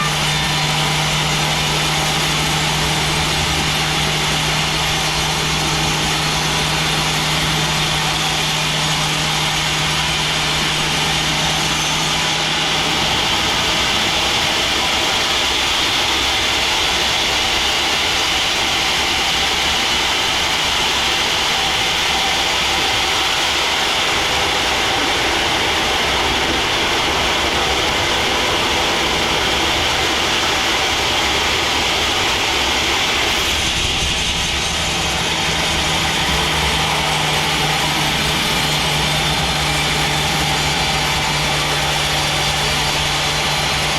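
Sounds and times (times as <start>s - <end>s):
band sawmill running: 0.0s - 43.9s.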